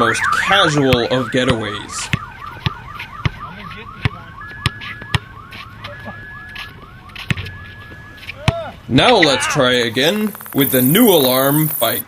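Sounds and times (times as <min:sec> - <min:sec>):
car alarm siren: 0:00.0 - 0:11.8.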